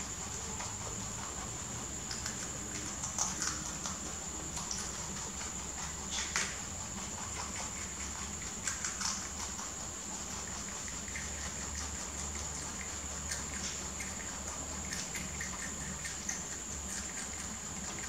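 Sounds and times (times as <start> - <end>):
rabbits chewing leafy stalks: 0.0 - 18.0
steady high-pitched whine: 0.0 - 18.0.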